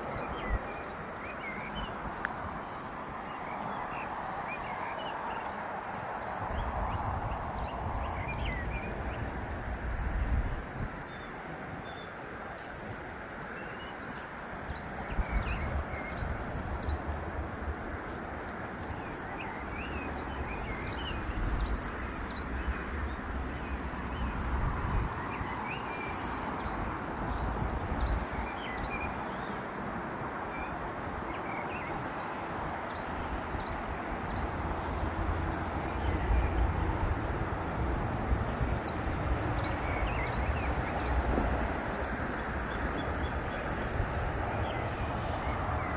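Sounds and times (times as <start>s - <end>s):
small birds chirping: 0.0s - 9.6s, 10.7s - 41.8s.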